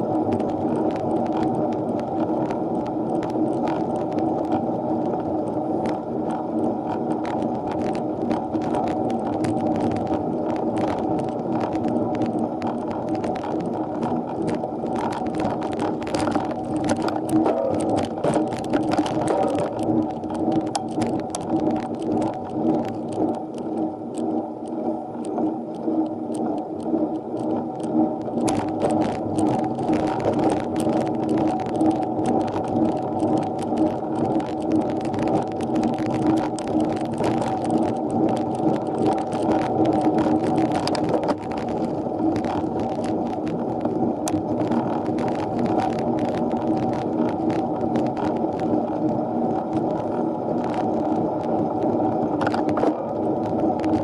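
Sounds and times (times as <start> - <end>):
bicycle clicks and rattles: 0.0 - 54.0
bicycle riding hum: 0.0 - 54.0.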